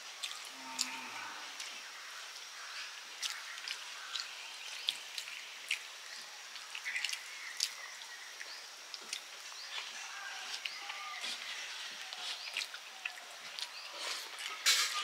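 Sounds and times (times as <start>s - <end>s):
chewing: 0.2s - 1.8s, 3.2s - 15.0s.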